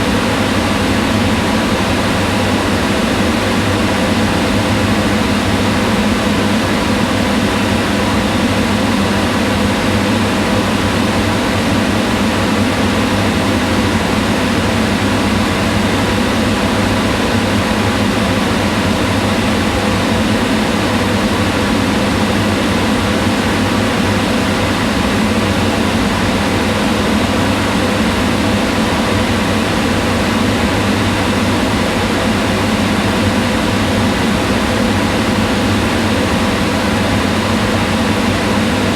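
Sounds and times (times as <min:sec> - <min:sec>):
range hood fan running: 0:00.0 - 0:38.9.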